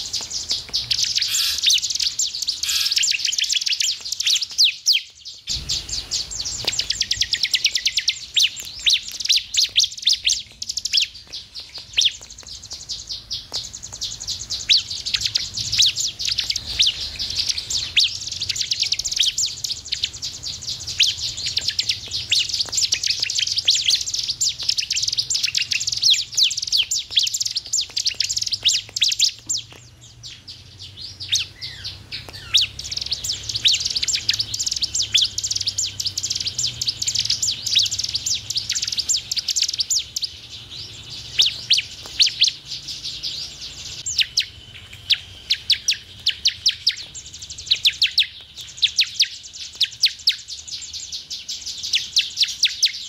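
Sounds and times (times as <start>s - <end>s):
bird chattering song: 0.0s - 53.0s.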